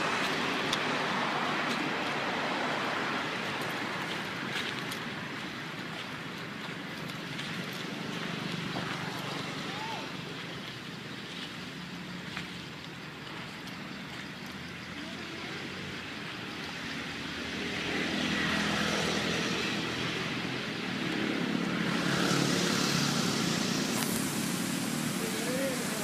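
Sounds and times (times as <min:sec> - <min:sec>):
distant vehicles passing: 0:00.0 - 0:26.0
steady outdoor hum: 0:00.0 - 0:26.0.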